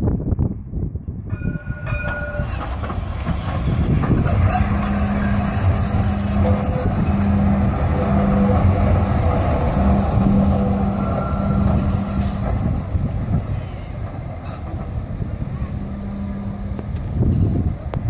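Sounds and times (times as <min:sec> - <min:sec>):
tram wheels rumbling on rails: 0:00.0 - 0:18.0
tram humming: 0:00.2 - 0:18.0.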